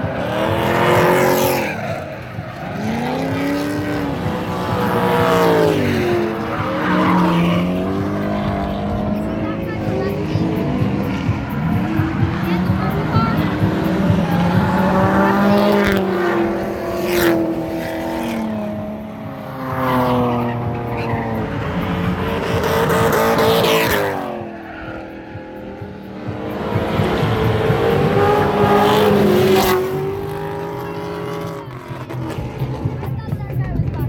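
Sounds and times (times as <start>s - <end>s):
car engines revving hard: 0.0s - 34.0s.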